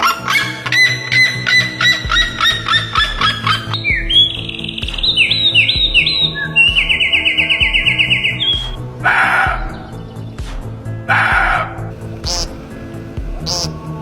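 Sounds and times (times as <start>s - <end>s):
rapid bird trill: 0.0s - 10.4s, 11.0s - 14.0s
background music with steady beat: 0.0s - 14.0s
bird calls: 0.0s - 14.0s
rising whistled bird notes: 0.0s - 14.0s.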